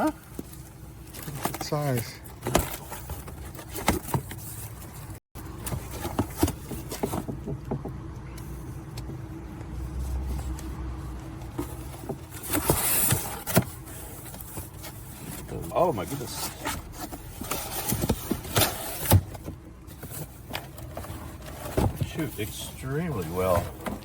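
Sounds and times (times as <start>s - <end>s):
cardboard rustling: 0.0s - 24.0s.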